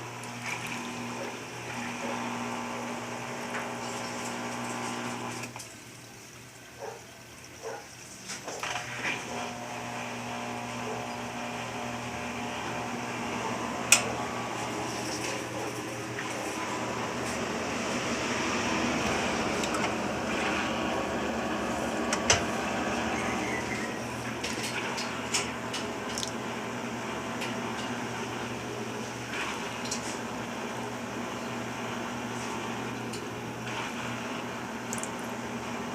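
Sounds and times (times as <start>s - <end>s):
washing machine humming: 0.0s - 35.9s.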